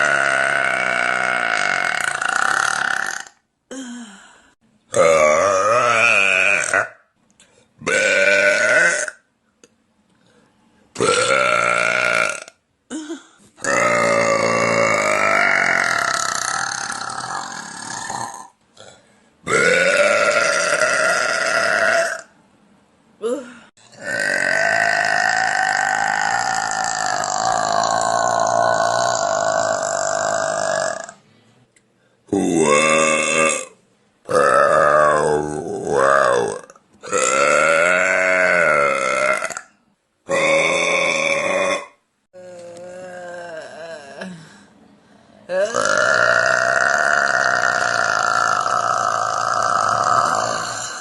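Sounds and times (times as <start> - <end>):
woman belching: 0.0 - 3.9, 4.9 - 7.0, 7.9 - 9.2, 11.0 - 18.9, 19.5 - 22.3, 23.2 - 31.2, 32.3 - 39.7, 40.3 - 44.4, 45.5 - 51.0.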